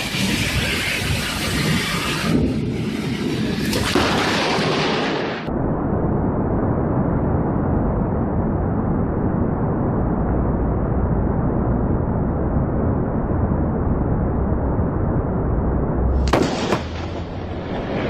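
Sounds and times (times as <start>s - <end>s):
thunder rumbling: 0.0s - 18.0s.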